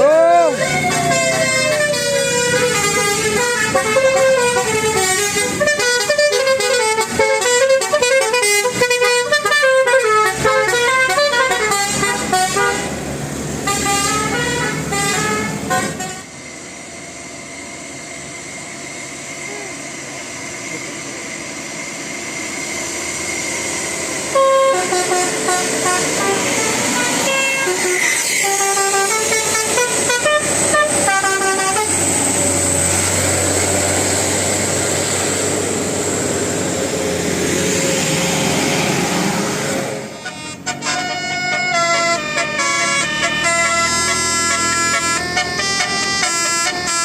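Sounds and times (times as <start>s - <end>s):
multi-tone bus horn melody: 0.0s - 16.3s, 24.2s - 37.0s, 38.4s - 47.0s
vehicle running noise: 0.0s - 47.0s.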